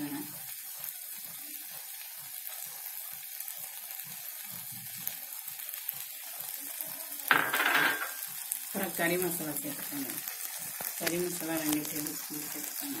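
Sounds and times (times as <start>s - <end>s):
masala frying in oil: 0.0s - 13.0s.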